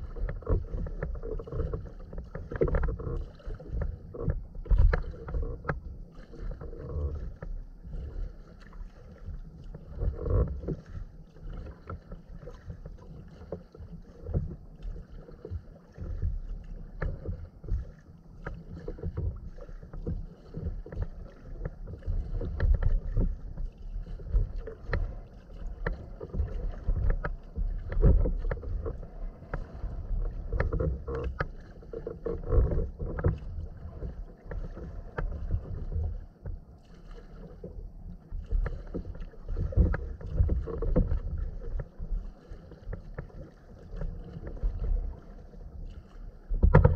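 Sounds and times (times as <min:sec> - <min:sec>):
paddle splashing and dripping water: 0:00.0 - 0:46.9
water lapping against hull: 0:00.0 - 0:46.9.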